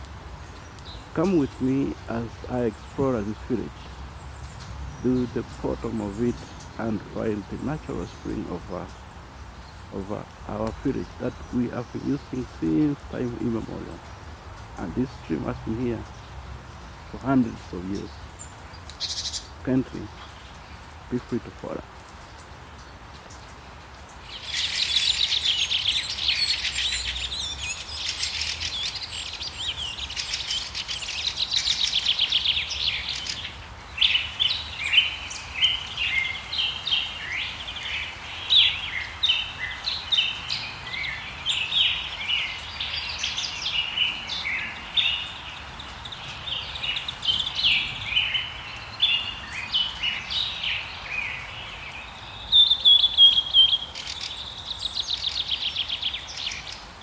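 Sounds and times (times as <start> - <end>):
birds trilling and chirping: 0.0 - 57.0.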